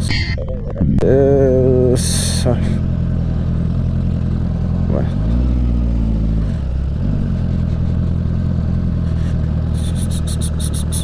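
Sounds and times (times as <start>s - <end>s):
motorcycle engine running: 1.0s - 11.0s.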